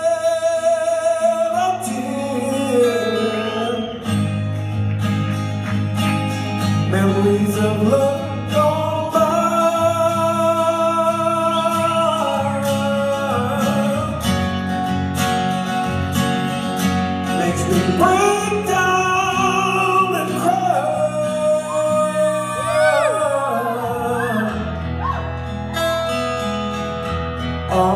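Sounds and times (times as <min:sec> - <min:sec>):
acoustic guitar ballad: 0:00.0 - 0:27.9.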